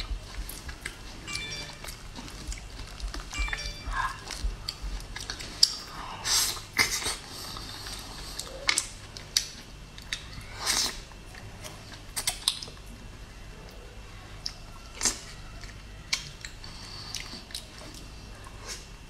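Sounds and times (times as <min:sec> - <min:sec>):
chewing with mouth smacks: 0:00.0 - 0:12.9, 0:14.4 - 0:18.9.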